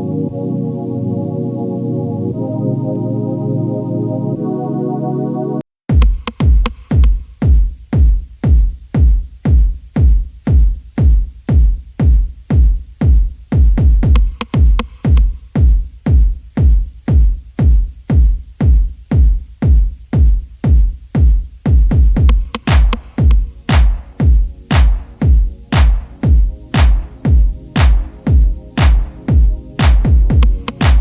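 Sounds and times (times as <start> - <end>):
electronic dance music: 0.0 - 31.0
booming kick drum: 5.9 - 31.0.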